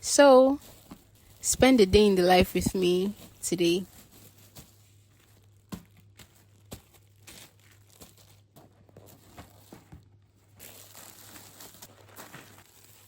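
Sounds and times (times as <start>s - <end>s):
faint rustling and crinkling: 0.1s - 13.0s.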